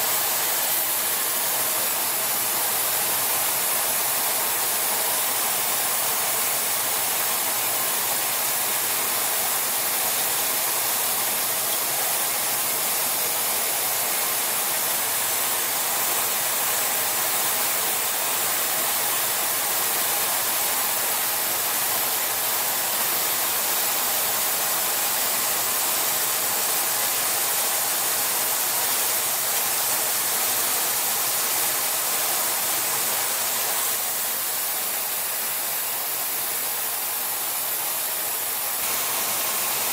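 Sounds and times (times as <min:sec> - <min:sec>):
metal spray gun hissing: 0:00.0 - 0:39.9.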